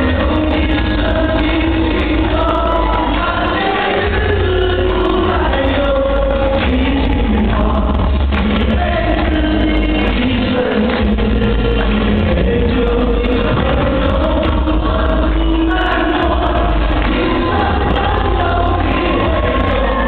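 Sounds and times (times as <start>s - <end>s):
group of people singing: 0.0s - 20.0s
loud bass-heavy music: 0.0s - 20.0s.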